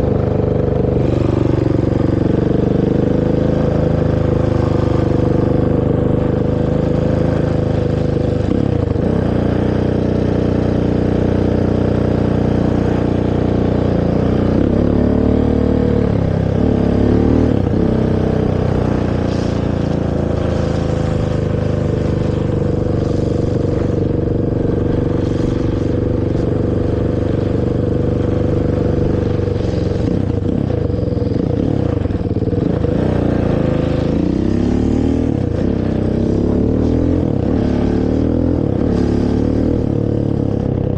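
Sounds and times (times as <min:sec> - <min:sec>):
quad bike engine revving: 0:00.0 - 0:40.9.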